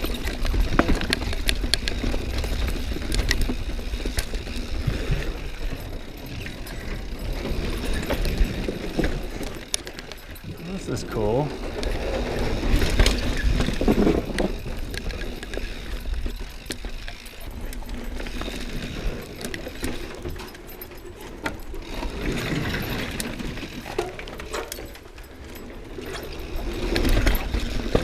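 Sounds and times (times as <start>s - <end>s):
bike rattling clicks: 0.0s - 28.0s
bike tyre noise: 0.0s - 28.0s.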